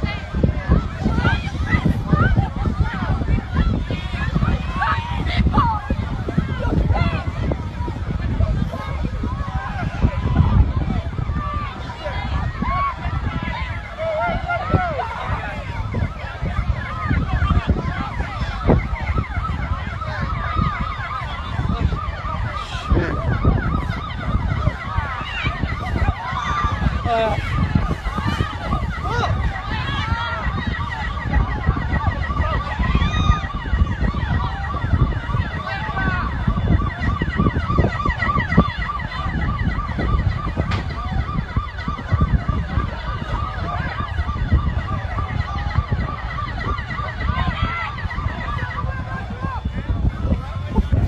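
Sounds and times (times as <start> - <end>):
emergency sirens yelping: 0.0 - 51.0.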